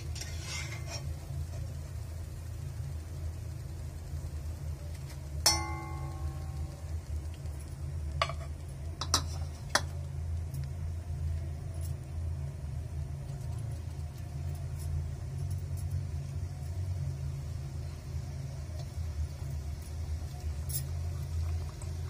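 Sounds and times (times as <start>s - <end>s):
dough crackling in hot oil: 0.0s - 22.0s
low rumble of gas stove: 0.0s - 22.0s.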